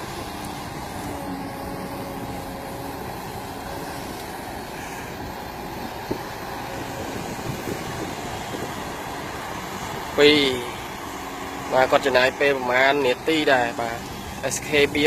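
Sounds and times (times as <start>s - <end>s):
excavator diesel engine running: 0.0s - 15.0s
faint whine: 0.0s - 15.0s.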